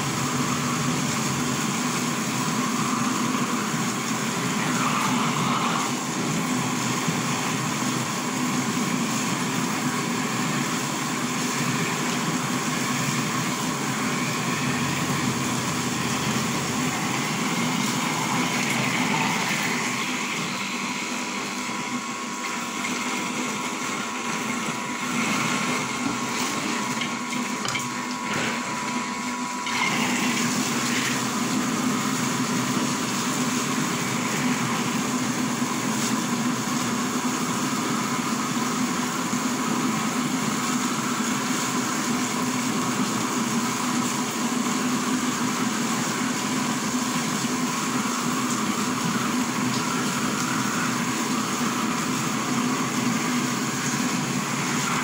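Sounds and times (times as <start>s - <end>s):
liquid rushing: 0.0s - 38.2s, 46.4s - 55.0s
water pouring: 0.0s - 38.3s, 45.8s - 55.0s
grinder motor humming: 0.0s - 41.1s, 42.4s - 55.0s.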